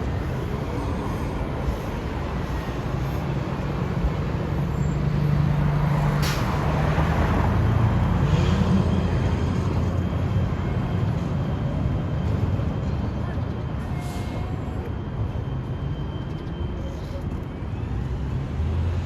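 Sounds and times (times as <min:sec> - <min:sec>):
large vehicle engine hum: 0:00.0 - 0:19.0.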